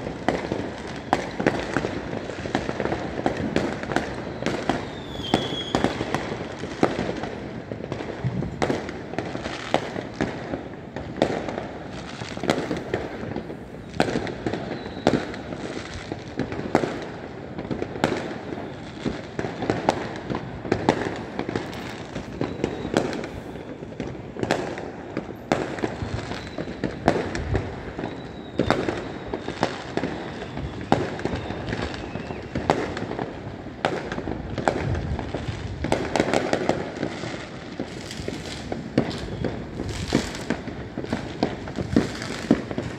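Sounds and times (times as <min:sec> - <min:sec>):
fireworks bangs and pops: 0:00.0 - 0:42.9
rumble of distant fireworks: 0:00.0 - 0:42.9.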